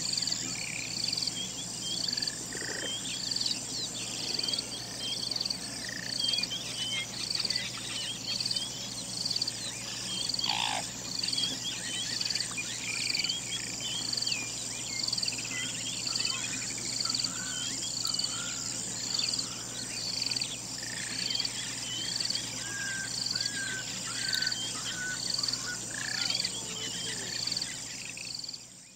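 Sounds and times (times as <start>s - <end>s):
high insect buzz: 0.0s - 28.9s
birds chirping and calling: 0.1s - 28.7s.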